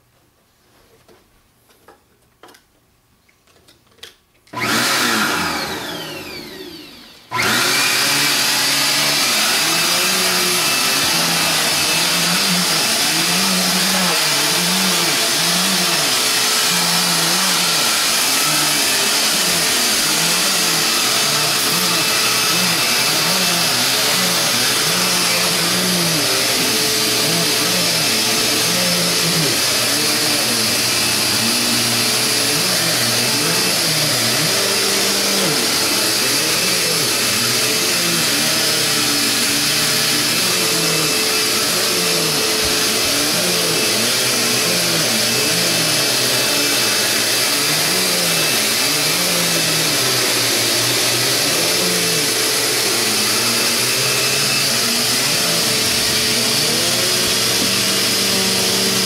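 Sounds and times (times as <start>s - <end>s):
vacuum cleaner running: 4.5s - 59.0s.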